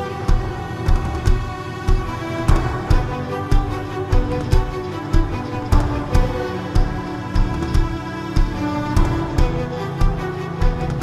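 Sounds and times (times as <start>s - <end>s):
low drum beat: 0.0s - 11.0s
orchestral chords: 0.0s - 11.0s.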